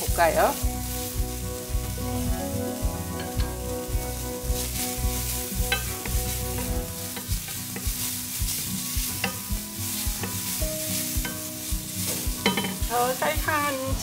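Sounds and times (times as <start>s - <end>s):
wooden spatula scraping a pan: 0.0s - 14.0s
zucchini sizzling in oil: 0.0s - 14.0s.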